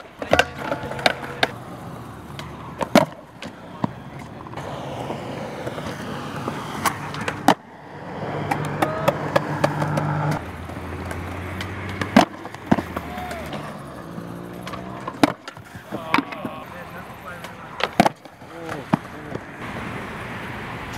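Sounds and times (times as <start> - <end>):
skateboard slapping the ground: 0.0 - 19.9
skateboard wheels rolling on concrete: 0.0 - 20.9.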